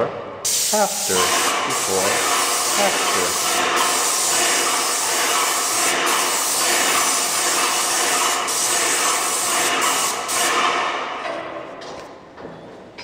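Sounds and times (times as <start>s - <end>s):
paint sprayer hissing: 0.5s - 10.9s.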